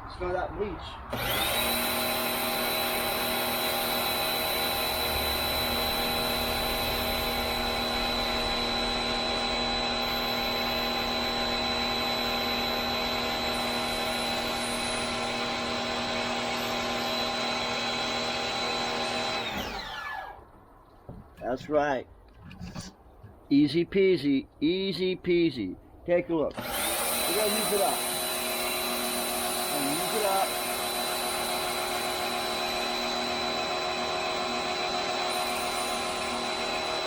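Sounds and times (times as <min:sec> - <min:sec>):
pressure washer motor whining: 0:01.1 - 0:20.4, 0:26.5 - 0:37.0.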